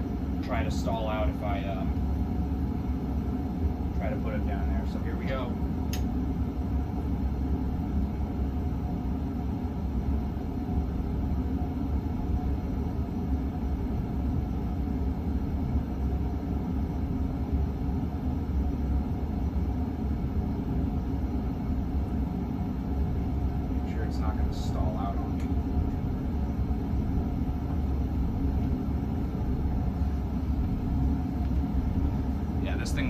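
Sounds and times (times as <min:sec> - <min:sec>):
ceiling fan low rumble: 0:00.0 - 0:33.0
furnace running: 0:00.0 - 0:33.0.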